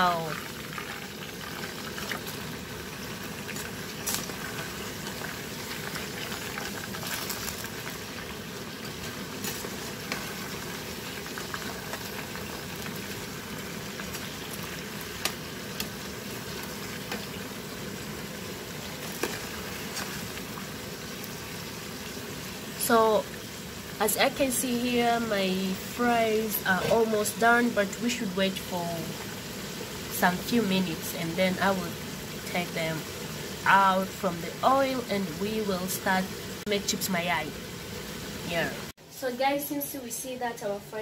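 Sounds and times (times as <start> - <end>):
fries sizzling in oil: 0.0 - 41.0.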